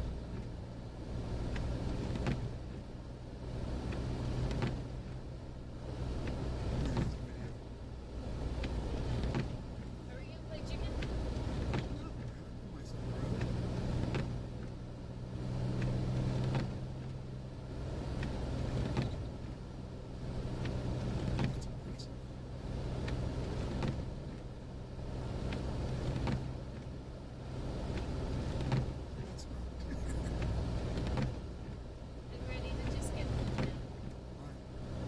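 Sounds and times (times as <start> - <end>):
engine humming inside cabin: 0.0 - 35.0.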